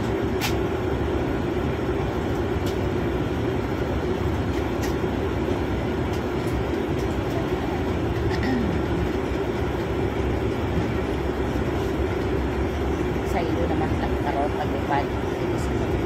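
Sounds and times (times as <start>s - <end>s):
jet cabin rumble on runway: 0.0s - 16.0s.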